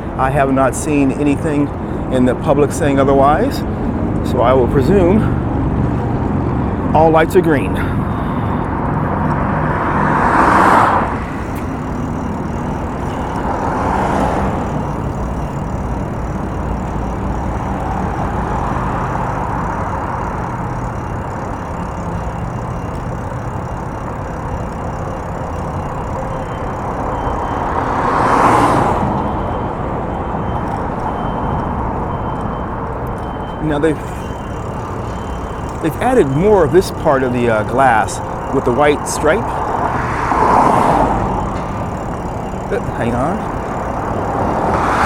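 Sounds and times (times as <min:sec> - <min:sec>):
cars passing by close: 0:00.0 - 0:45.0
traffic rumble: 0:00.0 - 0:45.0.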